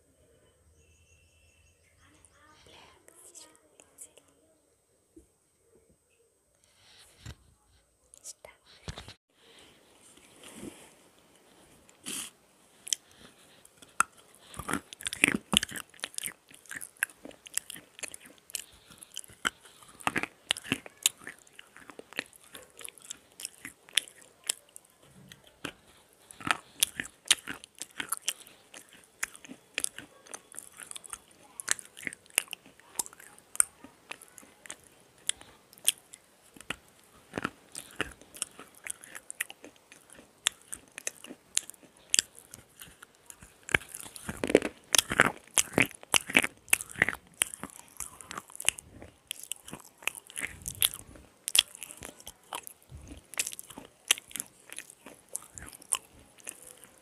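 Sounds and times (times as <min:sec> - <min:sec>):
slate pencils being chewed: 0:08.1 - 0:57.0.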